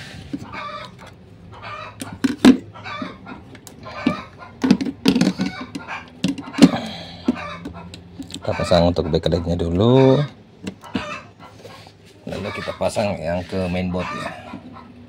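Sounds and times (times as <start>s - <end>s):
chicken clucking: 0.4s - 15.0s.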